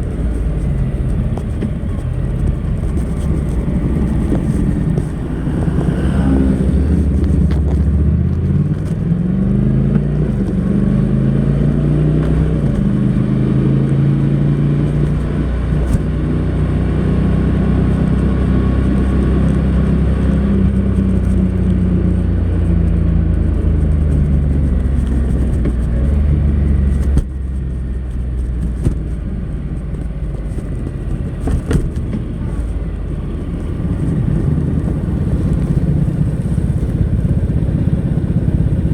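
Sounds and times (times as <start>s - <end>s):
motorcycle engine riding: 0.0s - 38.9s.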